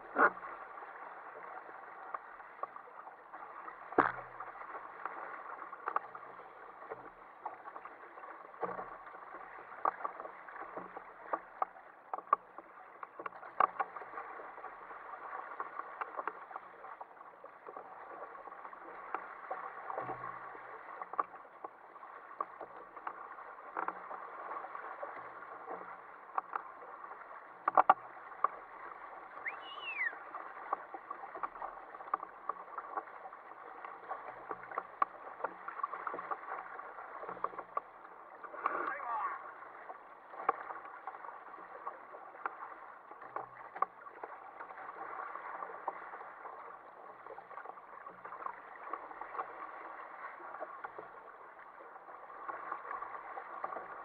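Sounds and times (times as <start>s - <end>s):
sea water rushing against hull: 0.0s - 54.0s
small waves slapping: 0.0s - 54.0s.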